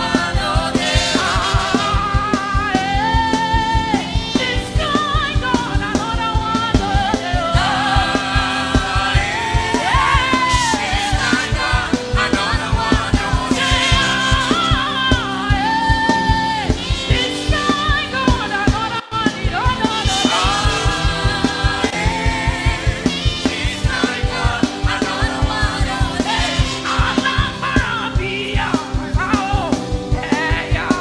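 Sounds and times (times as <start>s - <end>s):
fast drum beat: 0.0s - 31.0s
gospel singing over a band: 0.0s - 31.0s.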